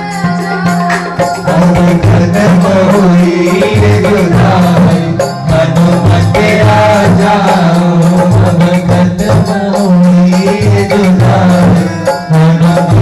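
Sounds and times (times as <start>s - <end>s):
amplified instrumental accompaniment: 0.0s - 13.0s
boy singing into a microphone: 0.0s - 13.0s.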